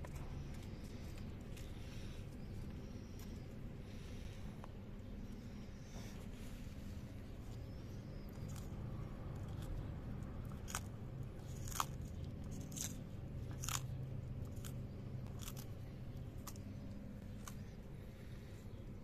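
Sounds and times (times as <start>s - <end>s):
steady low hum: 0.0s - 19.0s
tortoise crunching lettuce: 0.0s - 19.0s.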